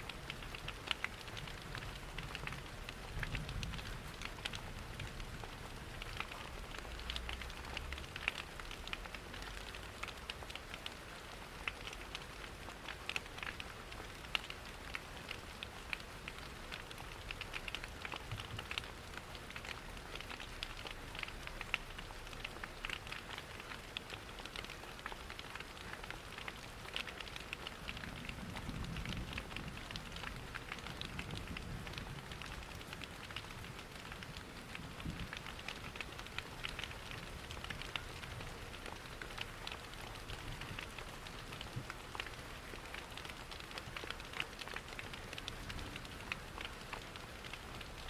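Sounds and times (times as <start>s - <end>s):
steady rain: 0.0s - 48.0s
wood fire crackling: 0.1s - 48.0s.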